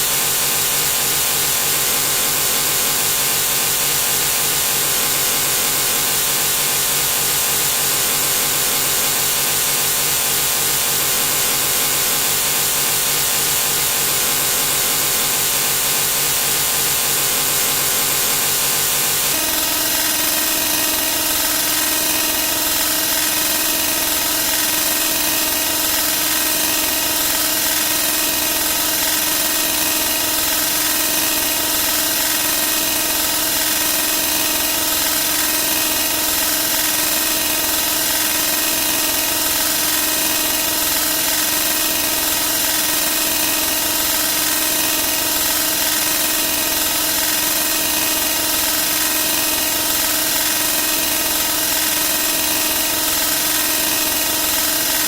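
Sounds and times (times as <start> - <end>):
continuous buzzing drone: 0.0 - 55.0.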